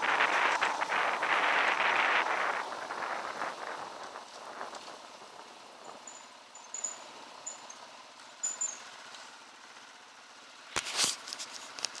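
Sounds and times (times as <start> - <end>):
dirt bike engine at low revs: 0.0 - 12.0.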